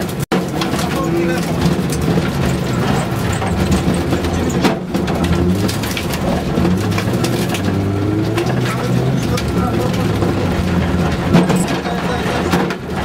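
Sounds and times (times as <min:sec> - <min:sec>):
car engine running hard: 0:00.0 - 0:13.0
gravel rattling against car body: 0:00.0 - 0:13.0.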